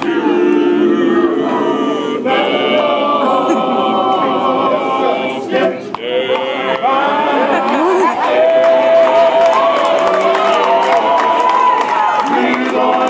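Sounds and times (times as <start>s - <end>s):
men's vocal group singing a cappella: 0.0s - 13.0s.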